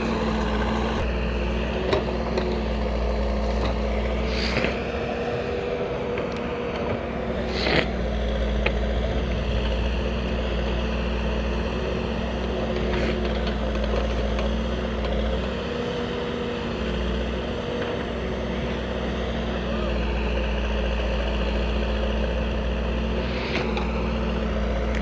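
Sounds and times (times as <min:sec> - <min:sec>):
backhoe diesel engine running: 0:00.0 - 0:25.0.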